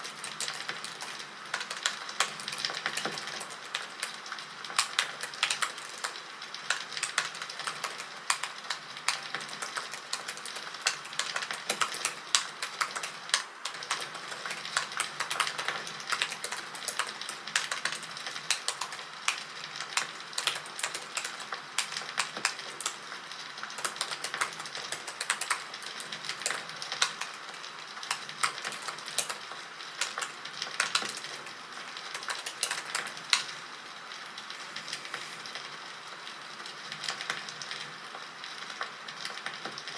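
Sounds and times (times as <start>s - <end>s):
campfire crackling and popping: 0.0s - 34.6s.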